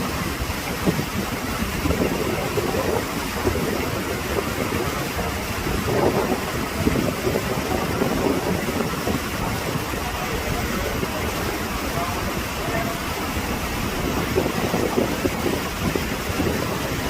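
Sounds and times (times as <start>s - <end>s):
river water rushing: 0.0s - 17.0s
wind buffeting microphone: 0.0s - 17.0s.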